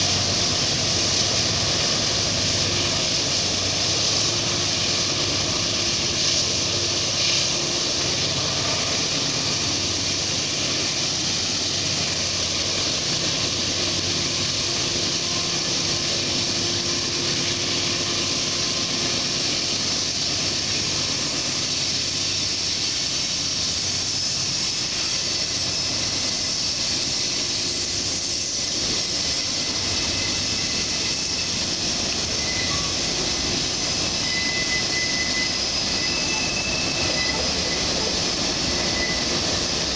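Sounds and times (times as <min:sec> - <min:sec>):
diesel locomotive engines under load: 0:00.0 - 0:39.9.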